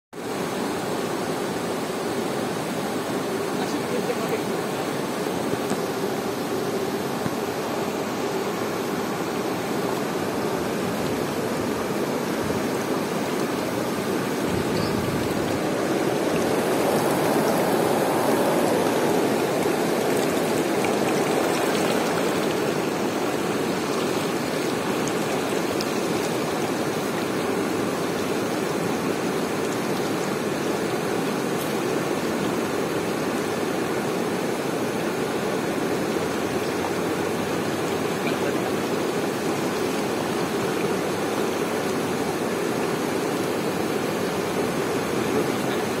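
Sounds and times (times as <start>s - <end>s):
white water rushing over boulders: 0.2s - 46.0s.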